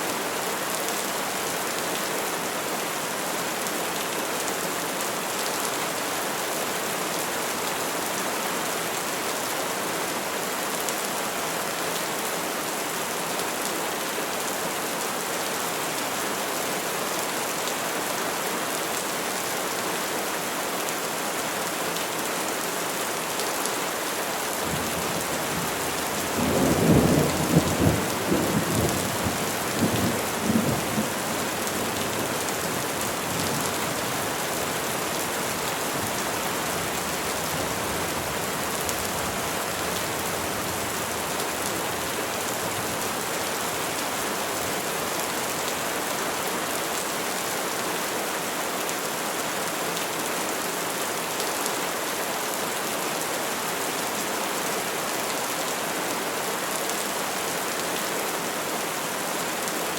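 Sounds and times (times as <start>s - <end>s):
rain falling on trees: 0.0s - 59.9s.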